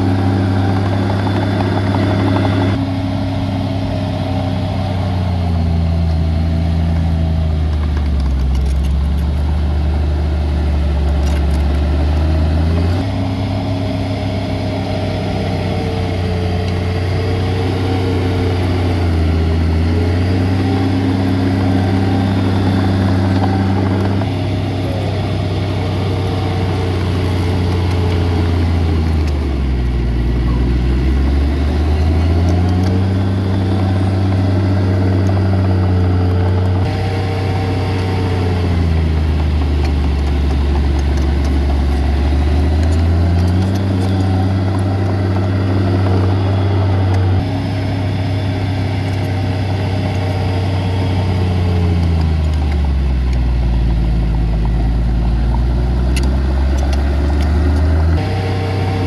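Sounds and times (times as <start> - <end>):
heavy diesel engine working: 0.0 - 59.0.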